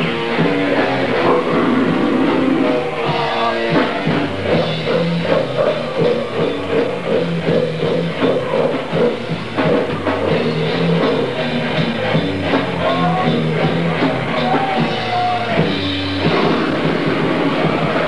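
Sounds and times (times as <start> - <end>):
grindcore band playing: 0.0 - 18.0.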